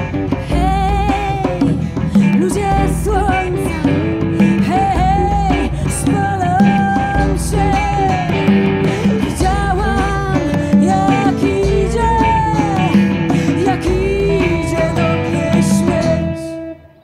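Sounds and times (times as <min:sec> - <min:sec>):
drum kit: 0:00.0 - 0:16.8
woman singing: 0:00.0 - 0:16.8
acoustic guitar: 0:00.0 - 0:17.0
electric bass: 0:00.0 - 0:17.0
electric guitar: 0:00.0 - 0:17.0.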